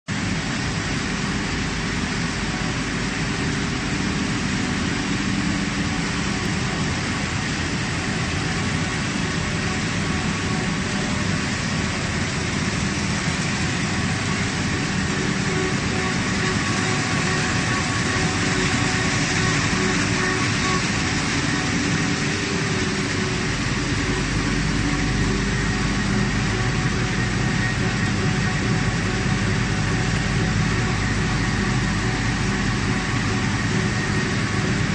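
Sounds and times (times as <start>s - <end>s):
printing press humming and whirring: 0.1s - 34.9s
deep low hum: 0.2s - 34.9s.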